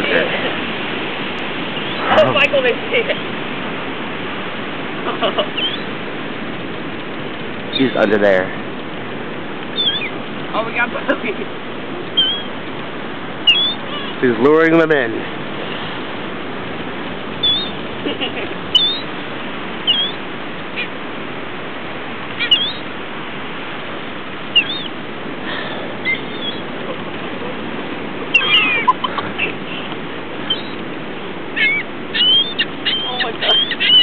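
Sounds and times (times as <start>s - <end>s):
gulls calling: 0.0s - 34.0s
steady background hiss: 0.0s - 34.0s.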